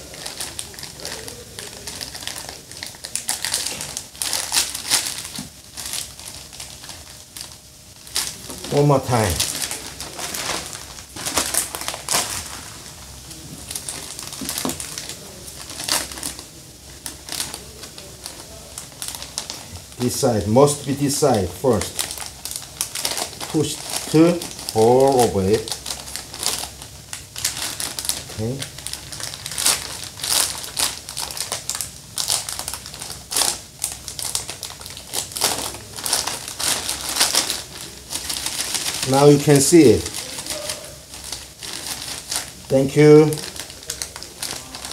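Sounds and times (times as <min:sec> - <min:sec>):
plastic bag crinkling: 0:00.0 - 0:44.9.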